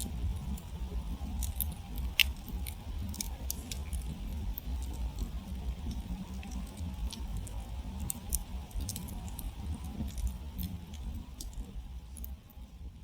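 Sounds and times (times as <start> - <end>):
fire crackling and popping: 0.0 - 13.0
low steady rumble: 0.0 - 13.0.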